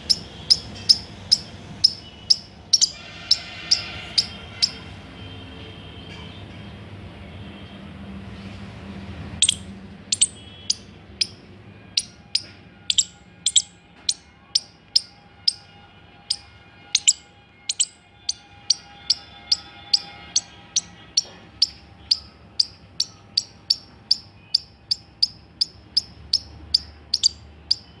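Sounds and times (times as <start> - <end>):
squirrel chirping: 0.0 - 4.8, 9.4 - 15.6, 16.3 - 28.0.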